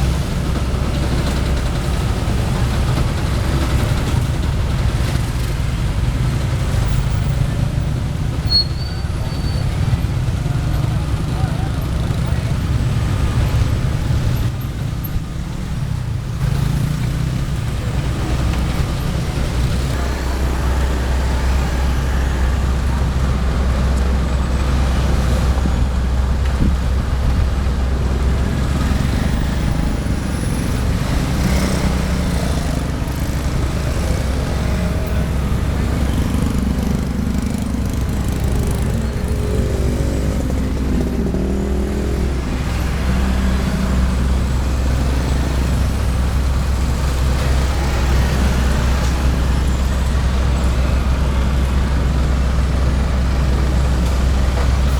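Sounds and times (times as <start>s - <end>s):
diesel engines droning: 0.0s - 54.9s.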